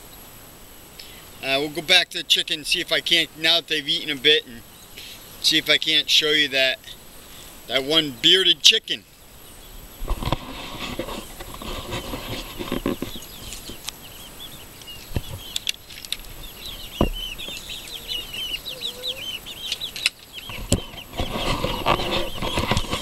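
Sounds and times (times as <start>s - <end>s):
chickens clucking: 2.6s - 23.0s.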